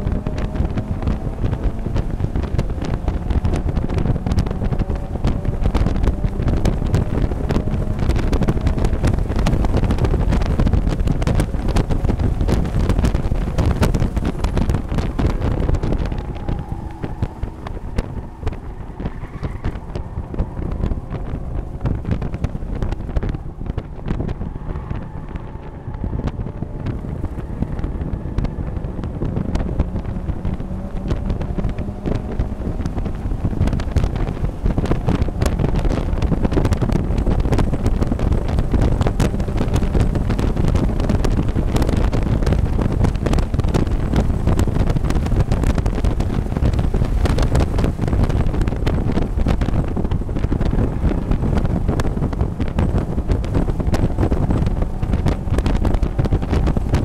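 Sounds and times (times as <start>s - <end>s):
race car engine under load: 0.0s - 57.0s
wind buffeting microphone: 0.0s - 57.0s.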